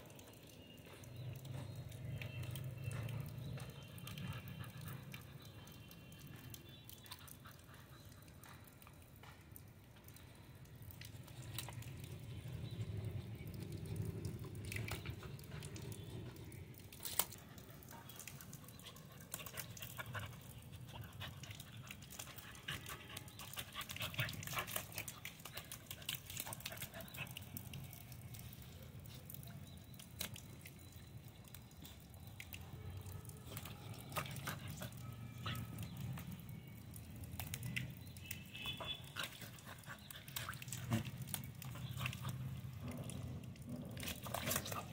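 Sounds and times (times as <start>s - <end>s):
puppy splashing in puddle: 0.0s - 44.9s
dog sounds: 2.9s - 10.2s, 10.8s - 44.9s.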